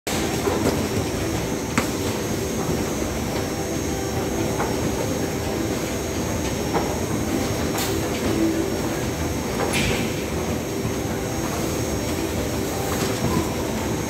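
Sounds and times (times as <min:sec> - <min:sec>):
conveyor belt machinery rumble: 0:00.1 - 0:14.0.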